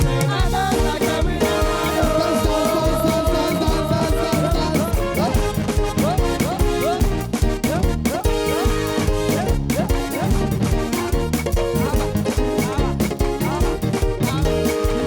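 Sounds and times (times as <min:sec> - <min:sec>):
upbeat gospel dance music: 0:00.0 - 0:15.0.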